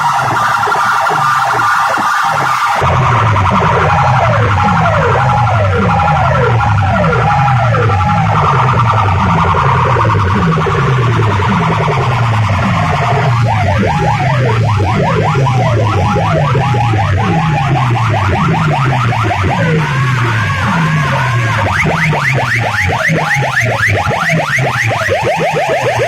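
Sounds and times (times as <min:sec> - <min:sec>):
siren-like electronic sweeps: 0:00.0 - 0:26.0
sliding bass notes: 0:00.0 - 0:26.0.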